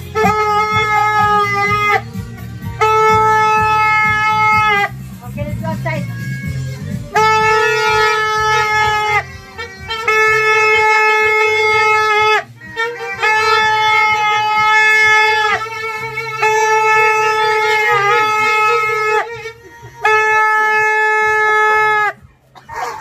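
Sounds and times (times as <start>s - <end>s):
party horn blasts: 0.0s - 22.8s.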